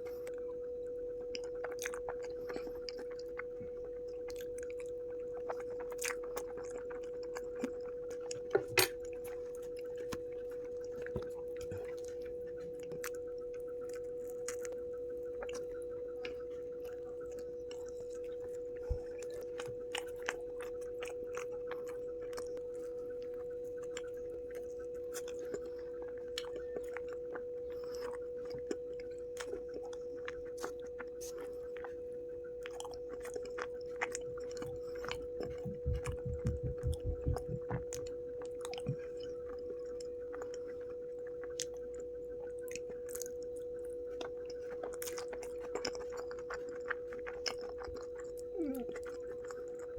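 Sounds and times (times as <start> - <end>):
person chewing food: 0.0 - 49.9
steady hum: 0.0 - 49.9.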